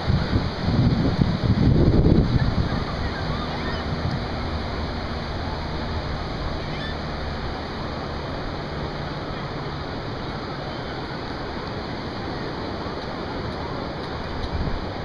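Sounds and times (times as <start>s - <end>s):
ocean surf on a beach: 0.0s - 15.0s
wind rushing over microphone: 0.0s - 15.0s.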